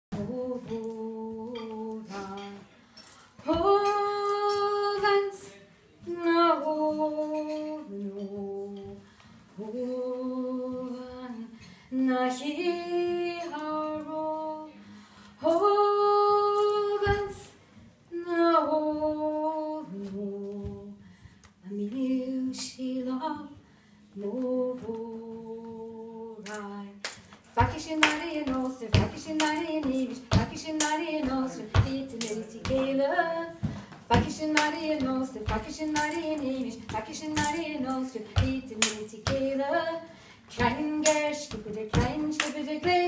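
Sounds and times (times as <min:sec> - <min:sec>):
woman singing unaccompanied: 0:00.1 - 0:02.7, 0:03.4 - 0:09.0, 0:09.6 - 0:14.8, 0:15.4 - 0:21.0, 0:21.6 - 0:23.6, 0:24.2 - 0:43.0.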